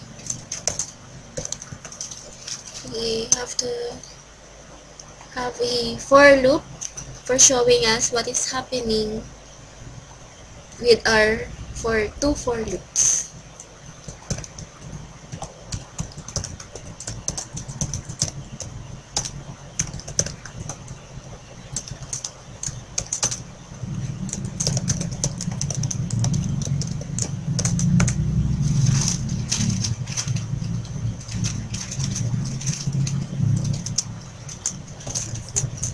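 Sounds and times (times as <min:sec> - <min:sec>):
low steady rumble: 0:00.0 - 0:35.9.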